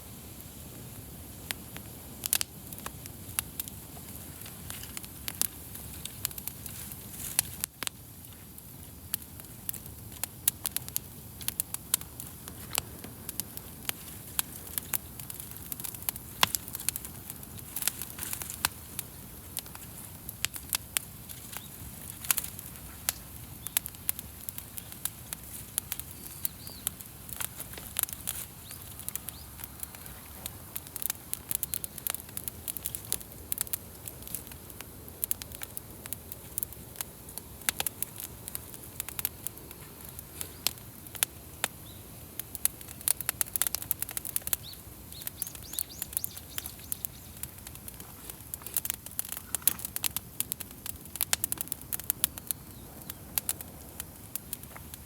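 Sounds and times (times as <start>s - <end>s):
campfire crackling and popping: 0.0s - 55.0s
low rush of flames: 0.0s - 55.0s.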